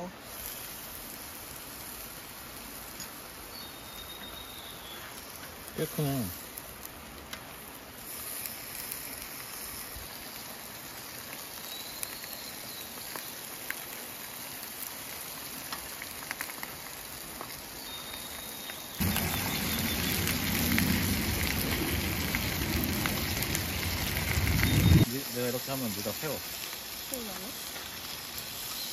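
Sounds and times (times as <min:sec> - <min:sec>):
fish sizzling on a griddle pan: 0:00.0 - 0:28.9.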